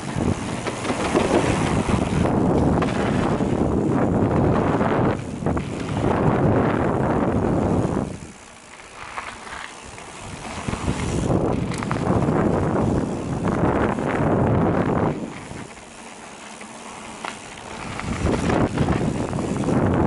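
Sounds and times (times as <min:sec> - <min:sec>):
wind rushing over microphone: 0:00.0 - 0:16.0, 0:17.1 - 0:20.0
bike rattling over ground: 0:00.0 - 0:20.0.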